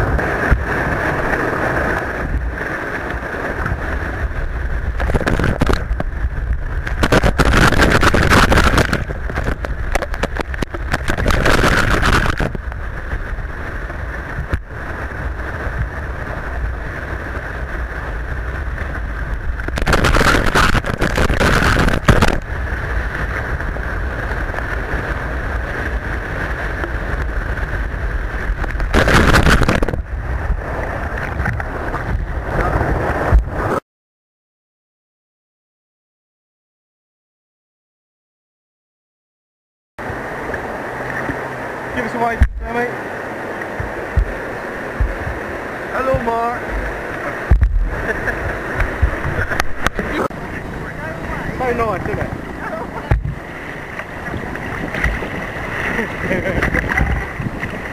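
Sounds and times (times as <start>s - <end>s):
rushing white water: 0.0s - 33.8s, 40.0s - 57.9s
water breaking over camera: 0.0s - 33.8s, 40.0s - 57.9s.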